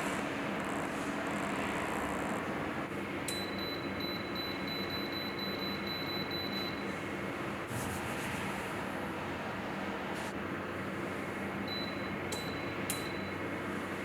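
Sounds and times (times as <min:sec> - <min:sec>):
space heater fan running: 0:00.0 - 0:14.0.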